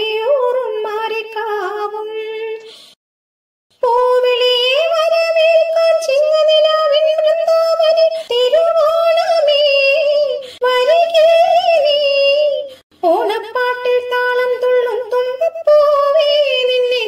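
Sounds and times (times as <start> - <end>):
woman singing gliding phrases: 0.0 - 2.8, 3.8 - 17.0.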